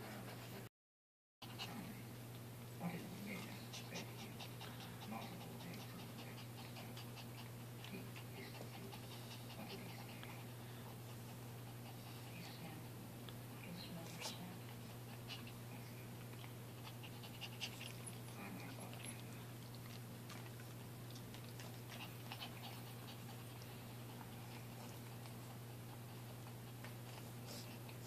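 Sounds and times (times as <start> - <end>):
low steady hum: 1.4 - 28.0.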